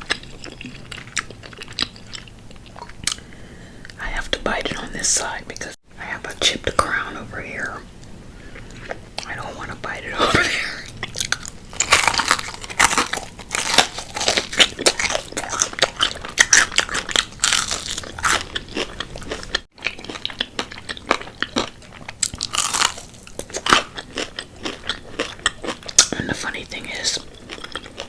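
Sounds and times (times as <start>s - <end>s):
crunchy chewing: 0.0s - 7.2s, 8.0s - 28.0s.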